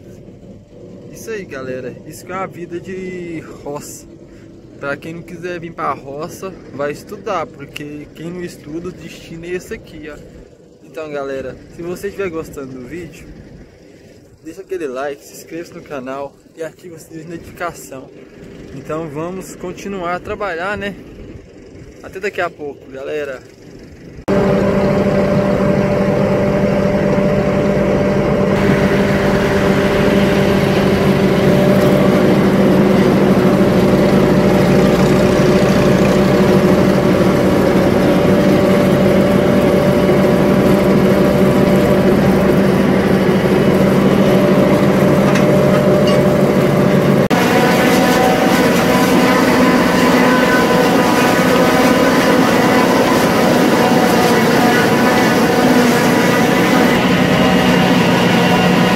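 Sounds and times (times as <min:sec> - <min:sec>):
tractor engine running: 0:00.0 - 0:15.2, 0:17.2 - 0:58.9.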